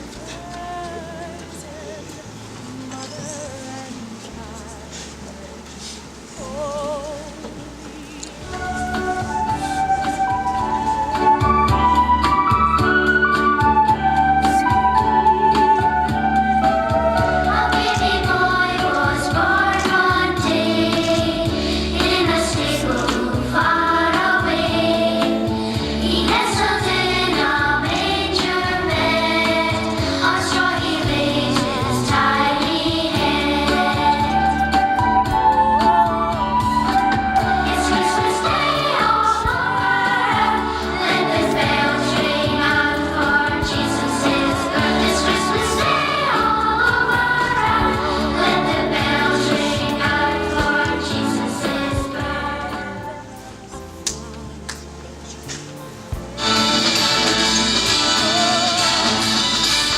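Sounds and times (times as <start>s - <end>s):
instrumental backing music: 0.0s - 59.9s
choir singing: 8.4s - 53.9s, 56.4s - 59.9s.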